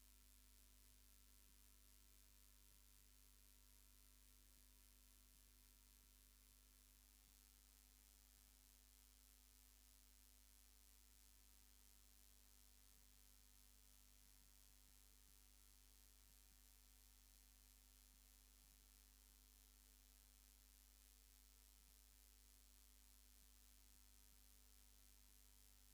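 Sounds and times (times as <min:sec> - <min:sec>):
faint electrical hum: 0:00.0 - 0:25.9.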